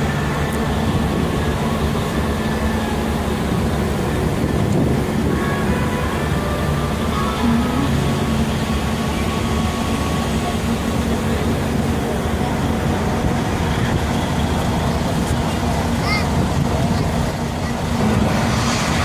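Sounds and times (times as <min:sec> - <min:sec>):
diesel engines rumbling: 0:00.0 - 0:19.0.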